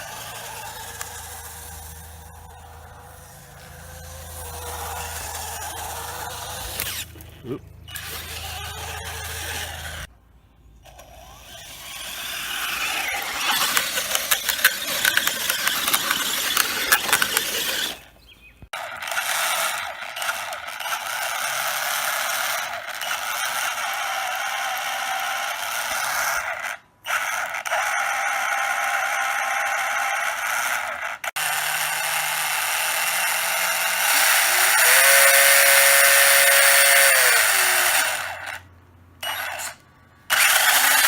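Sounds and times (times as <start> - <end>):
rc car drivetrain whining: 0.0 - 10.1, 10.8 - 41.0.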